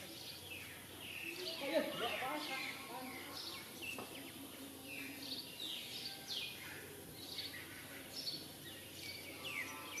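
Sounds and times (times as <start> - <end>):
outdoor ambience hiss: 0.0 - 10.0.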